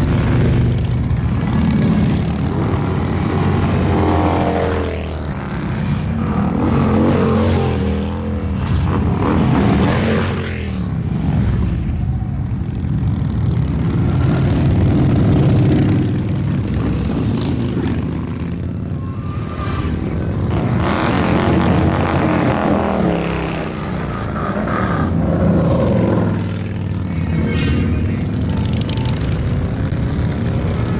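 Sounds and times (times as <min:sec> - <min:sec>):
motorcycles riding past: 0:00.0 - 0:30.9.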